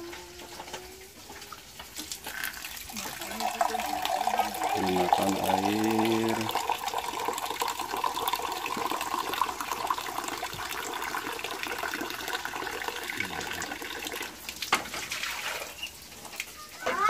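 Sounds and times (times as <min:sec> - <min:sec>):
tap water running and splashing: 0:00.0 - 0:17.0.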